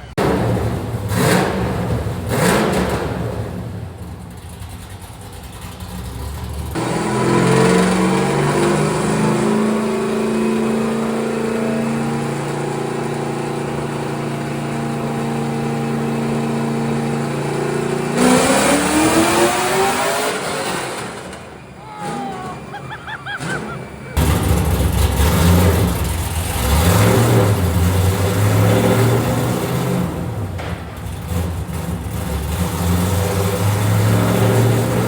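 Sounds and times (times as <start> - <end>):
race car engine revving and idling: 0.0 - 35.0.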